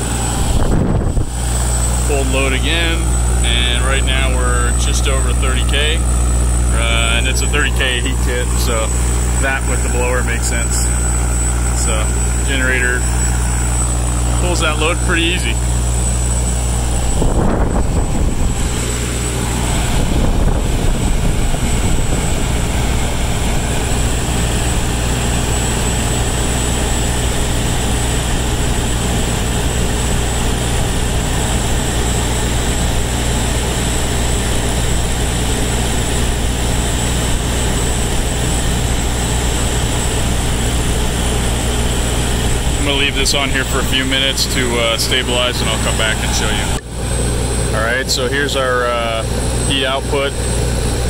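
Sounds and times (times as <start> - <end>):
blower air rushing from duct: 0.0 - 51.0
diesel generator running: 0.0 - 51.0.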